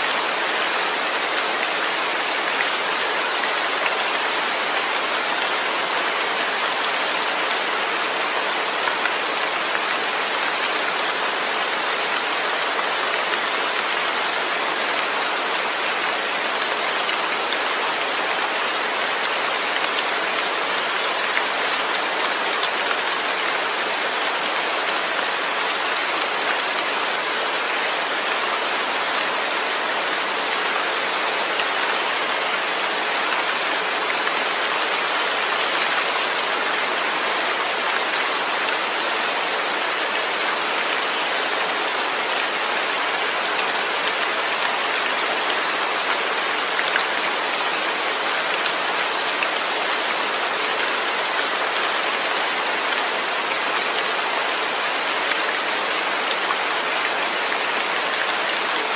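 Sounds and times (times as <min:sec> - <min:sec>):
heavy rainfall: 0:00.0 - 0:58.9.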